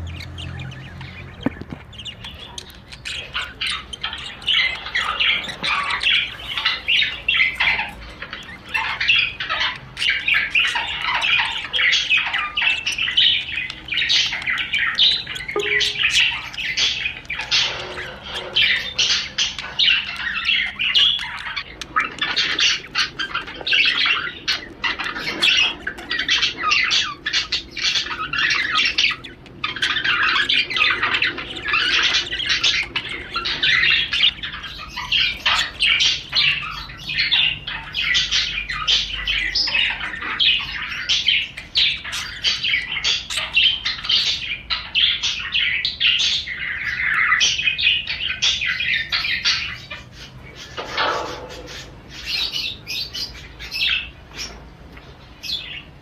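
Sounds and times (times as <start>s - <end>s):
budgerigar warbling: 0.0s - 54.6s.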